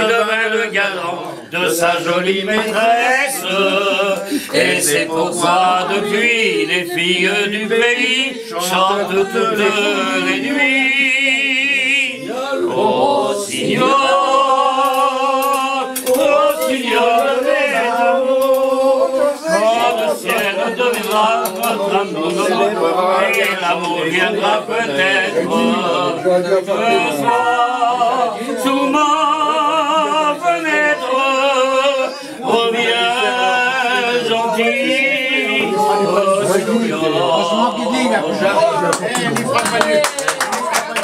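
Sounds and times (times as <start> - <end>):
person singing with vibrato: 0.0 - 38.6.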